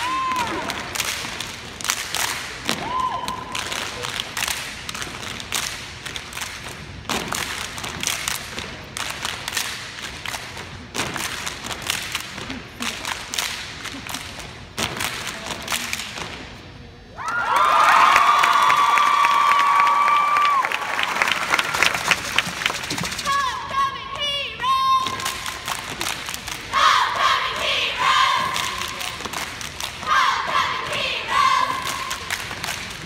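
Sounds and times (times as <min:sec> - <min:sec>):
people clapping in unison: 0:00.0 - 0:16.2, 0:17.2 - 0:23.3, 0:27.6 - 0:33.0.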